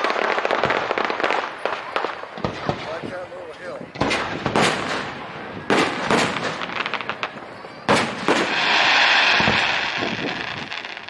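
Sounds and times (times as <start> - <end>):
fireworks booming: 0.0 - 11.0
fireworks crackling hiss: 0.0 - 11.0.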